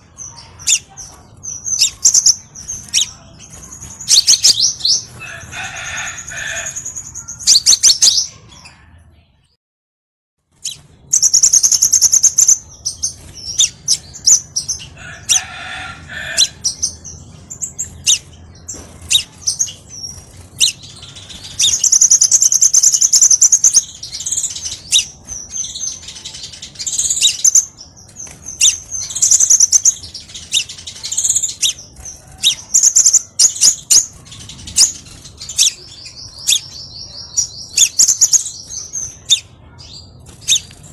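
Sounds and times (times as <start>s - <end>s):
bird chirping and trilling: 0.0s - 9.2s, 10.5s - 40.9s.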